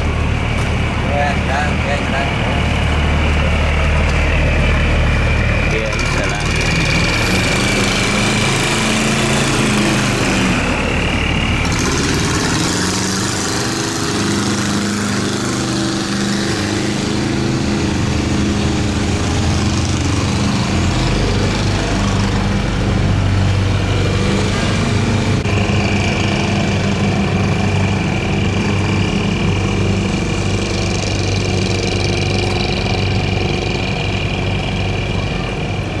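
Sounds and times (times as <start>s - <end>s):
boat engines humming: 0.0s - 36.0s.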